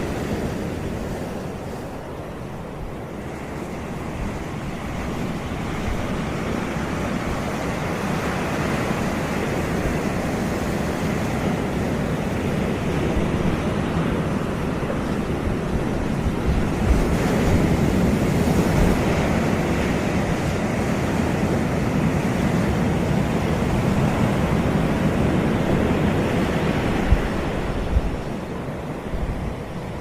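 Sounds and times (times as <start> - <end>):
surf washing onto beach: 0.0 - 30.0
wind rumble on microphone: 0.0 - 30.0.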